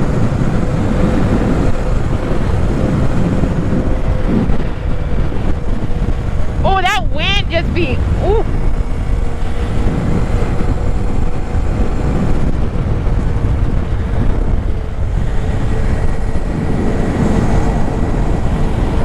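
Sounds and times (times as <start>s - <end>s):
motorcycle engine humming: 0.0s - 19.0s
wind buffeting microphone: 0.0s - 19.0s.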